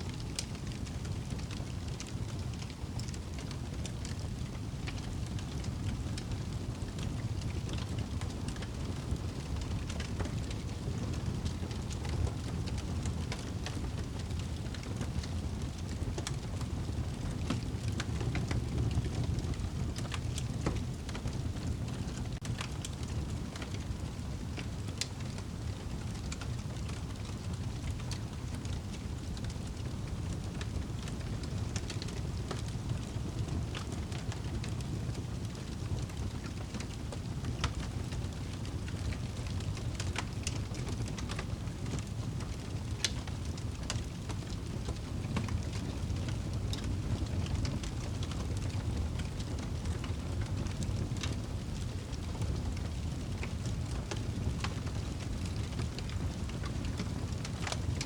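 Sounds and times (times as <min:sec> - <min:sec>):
fire crackles and pops: 0:00.0 - 0:58.0
wood fire burning: 0:00.0 - 0:58.0.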